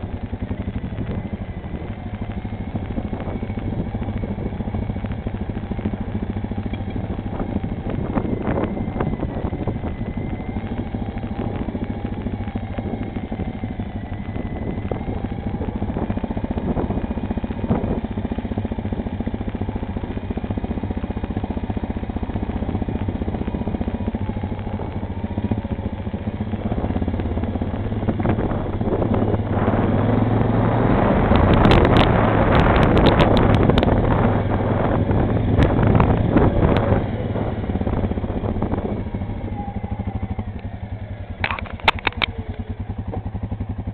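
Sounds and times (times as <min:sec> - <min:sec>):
quad bike engine running: 0:00.0 - 0:43.9.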